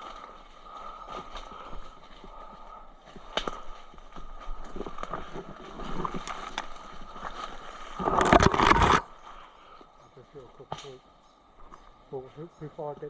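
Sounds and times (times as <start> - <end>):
rustling in undergrowth: 0.0 - 13.0.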